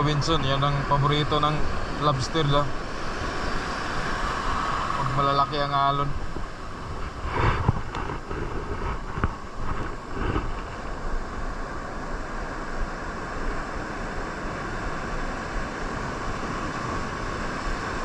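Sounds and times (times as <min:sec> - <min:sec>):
large waves breaking: 0:00.0 - 0:18.0
wind noise on microphone: 0:00.0 - 0:18.0.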